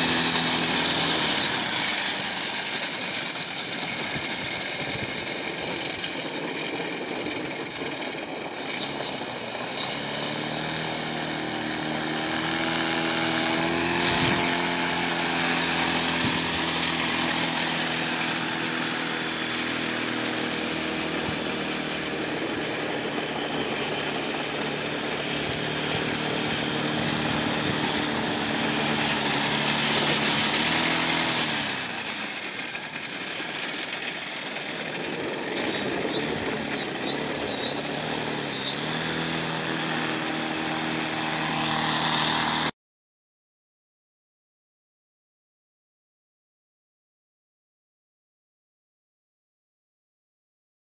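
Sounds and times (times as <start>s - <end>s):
propeller drone with high whine: 0.0s - 42.7s.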